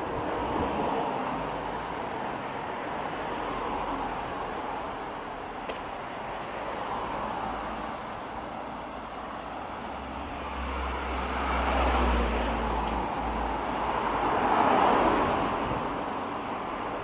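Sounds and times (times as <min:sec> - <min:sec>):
road vehicles passing: 0:00.0 - 0:17.0.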